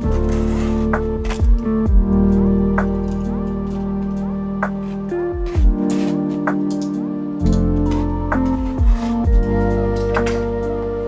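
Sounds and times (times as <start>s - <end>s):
lofi music with sliding bass: 0.0s - 11.0s.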